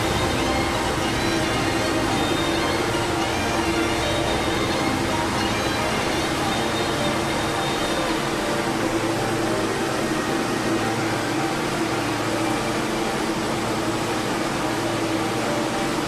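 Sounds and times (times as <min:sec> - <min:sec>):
constant hum: 0:00.0 - 0:16.0.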